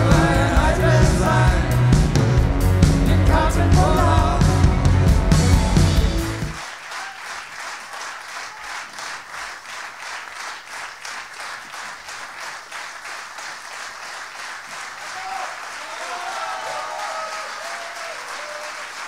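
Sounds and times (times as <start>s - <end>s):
audience clapping in rhythm: 0.0s - 19.0s.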